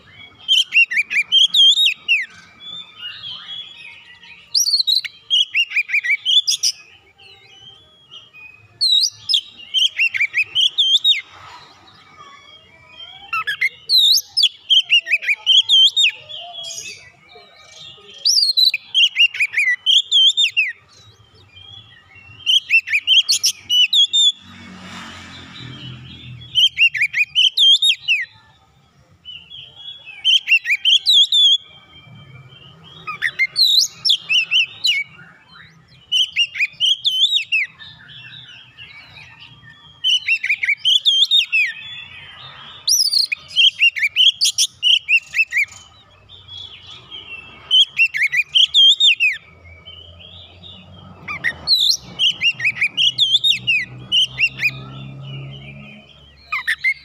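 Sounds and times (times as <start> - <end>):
bird singing whistles: 0.0 - 11.3, 12.2 - 24.4, 25.8 - 28.3, 29.3 - 49.8, 51.3 - 55.8.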